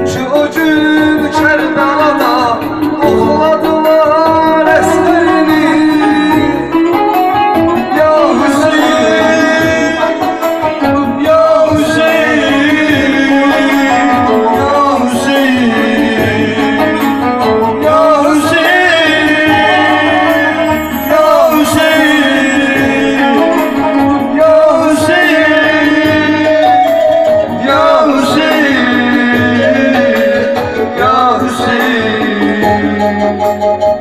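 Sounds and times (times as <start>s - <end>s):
man singing into a microphone: 0.0s - 34.0s.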